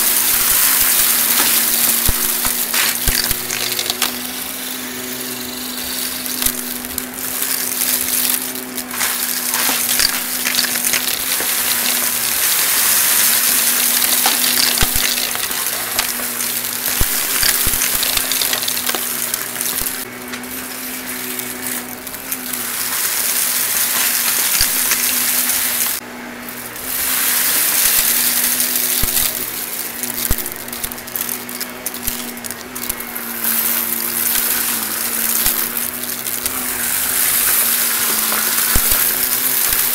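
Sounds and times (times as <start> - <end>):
grit crackling in vacuum: 0.0 - 39.9
vacuum cleaner running: 0.0 - 39.9.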